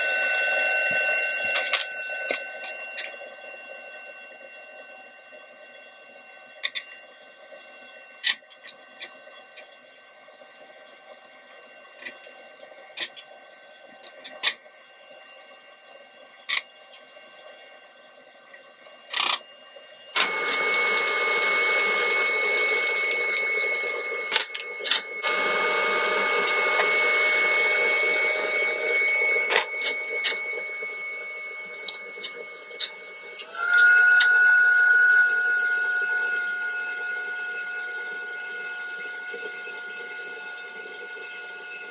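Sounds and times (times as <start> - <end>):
steady whine: 0.0 - 41.9.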